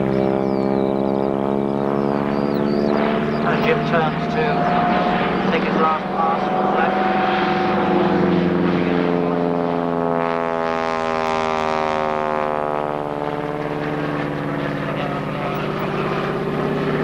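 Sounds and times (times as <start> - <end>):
propeller aircraft flying overhead: 0.0 - 17.0.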